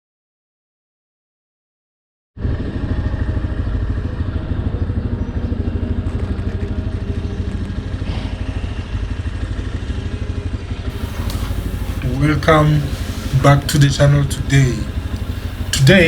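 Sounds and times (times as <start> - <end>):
motorcycle engine idling: 2.6 - 16.0.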